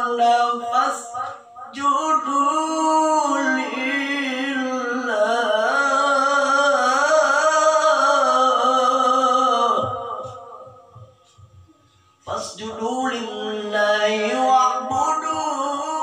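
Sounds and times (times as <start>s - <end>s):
man reciting melodically: 0.0s - 11.4s, 12.1s - 16.0s.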